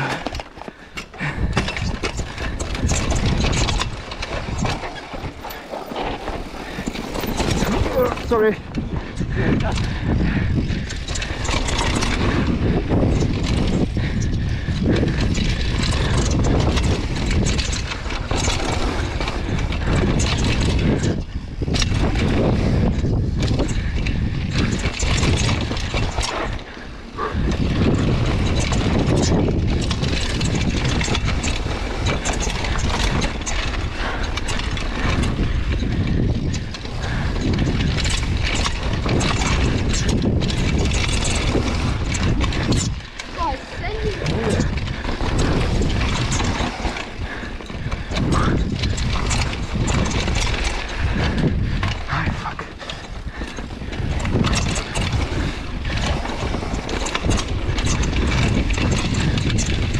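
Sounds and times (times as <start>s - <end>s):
bicycle frame and chain rattling: 0.0s - 59.9s
bike tyres rolling on dirt: 0.0s - 59.9s.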